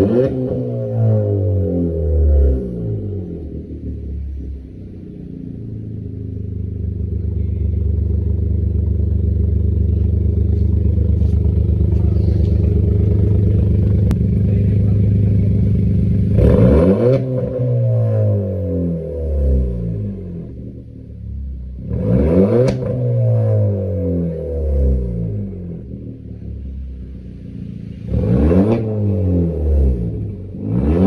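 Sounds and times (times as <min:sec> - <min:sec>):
car engine revving: 0:00.0 - 0:31.0
exhaust crackle: 0:02.4 - 0:31.0.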